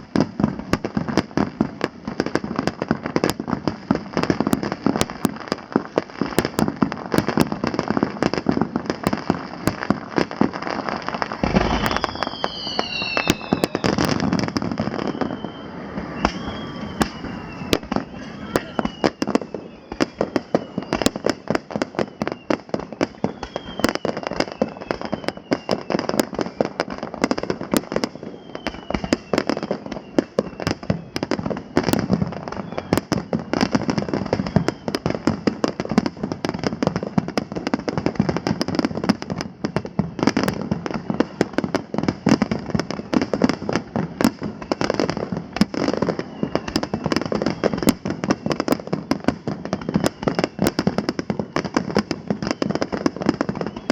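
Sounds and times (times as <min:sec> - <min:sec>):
fireworks bangs and crackles: 0:00.0 - 0:53.9
fireworks falling whistles: 0:00.0 - 0:53.9.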